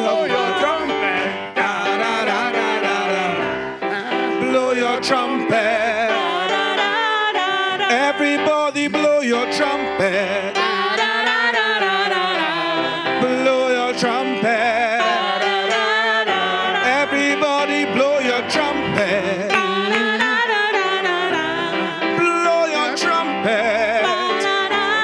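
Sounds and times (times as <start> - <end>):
group of singers: 0.0 - 25.0
keyboard accompaniment: 0.0 - 25.0.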